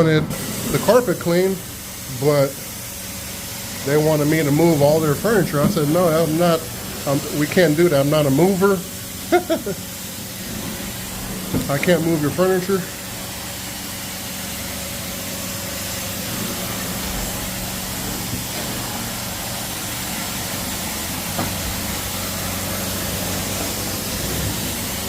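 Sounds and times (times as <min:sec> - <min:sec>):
cleaning machine hissing: 0:00.0 - 0:25.0.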